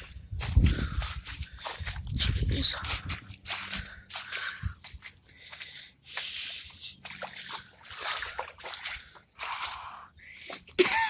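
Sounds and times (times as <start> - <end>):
footsteps squelching through mud: 0.0 - 11.0.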